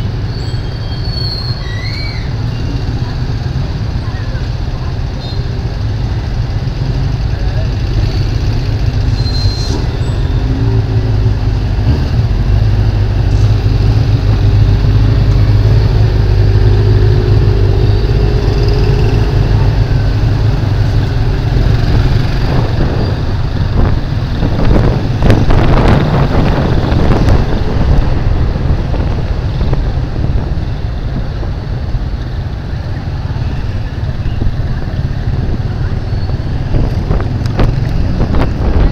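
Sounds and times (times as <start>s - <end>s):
passing traffic rush: 0.0s - 38.9s.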